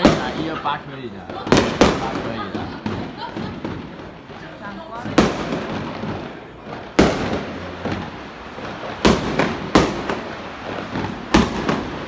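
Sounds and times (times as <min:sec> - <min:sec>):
fireworks bangs: 0:00.0 - 0:12.0
fireworks pops: 0:00.0 - 0:12.0
rumbling crackle: 0:01.2 - 0:12.0.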